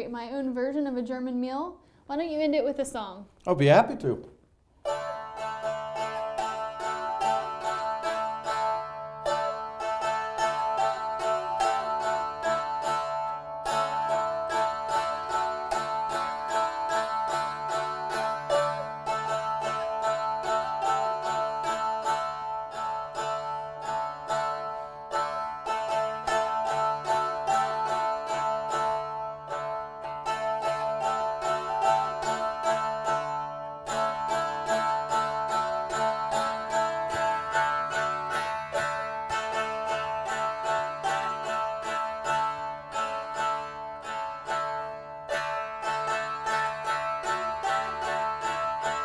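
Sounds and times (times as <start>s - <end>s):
box zither strummed: 4.8s - 49.0s.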